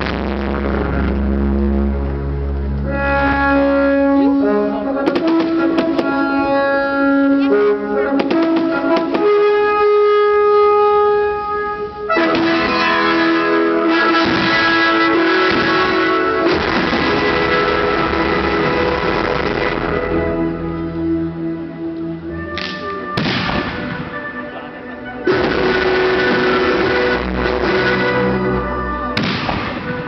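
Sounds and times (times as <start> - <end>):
brass music: 0.0 - 30.0.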